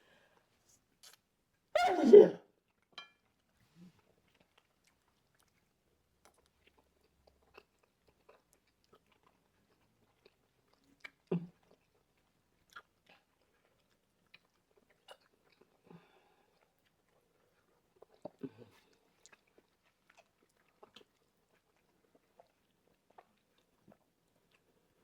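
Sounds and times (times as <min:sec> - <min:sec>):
chewing and biting food: 0:02.7 - 0:25.0.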